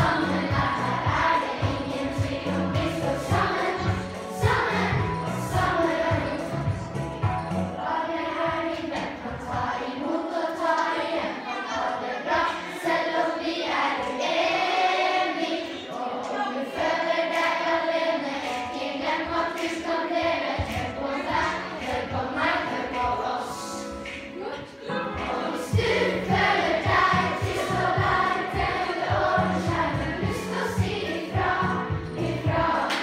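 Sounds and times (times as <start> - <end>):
children's choir singing: 0.0 - 33.0.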